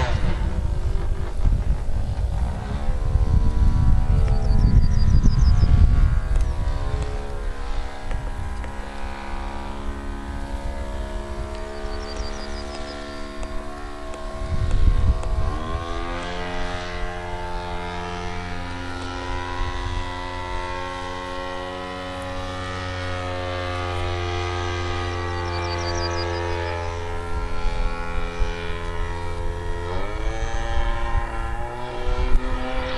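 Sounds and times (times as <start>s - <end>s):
model plane engine revving: 0.0s - 32.9s.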